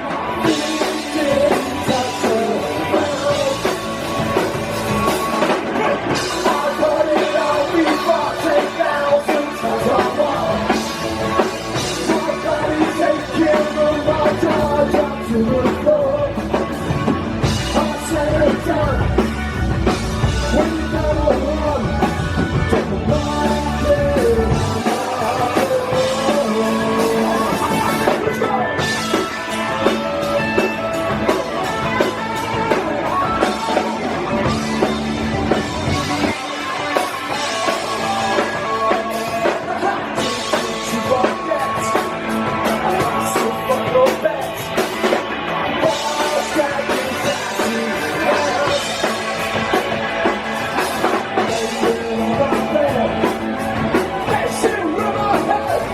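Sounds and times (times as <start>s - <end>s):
bass guitar: 0.0s - 55.9s
drum kit: 0.0s - 55.9s
electric guitar: 0.0s - 55.9s
person singing: 0.0s - 55.9s.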